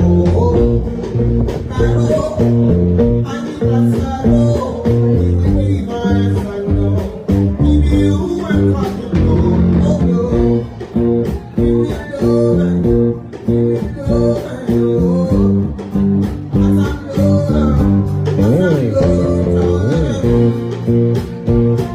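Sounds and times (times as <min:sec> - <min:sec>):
bass guitar: 0:00.0 - 0:21.9
plucked guitar: 0:00.0 - 0:21.9
steady drum beat: 0:00.0 - 0:21.9.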